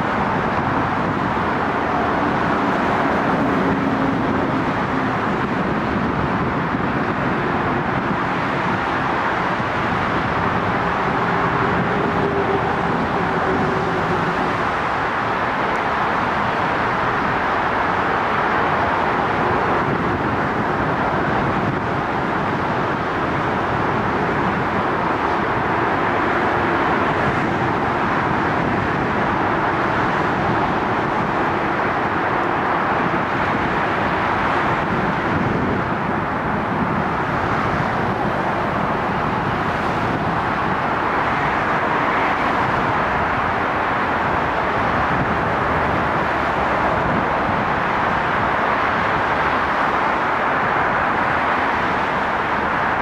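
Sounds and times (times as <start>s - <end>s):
distant road traffic: 0.0s - 53.0s.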